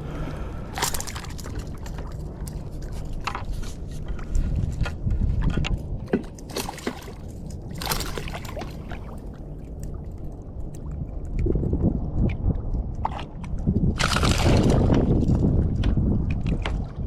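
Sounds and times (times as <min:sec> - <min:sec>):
low rumble: 0:00.0 - 0:17.0
water sloshing against kayak: 0:00.0 - 0:17.0.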